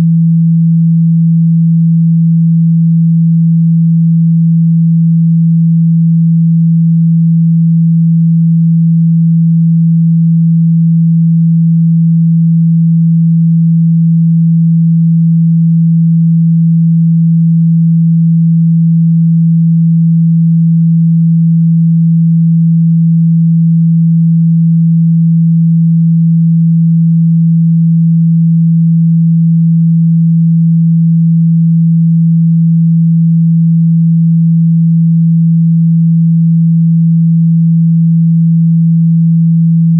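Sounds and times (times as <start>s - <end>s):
low sine tone: 0.0s - 39.9s.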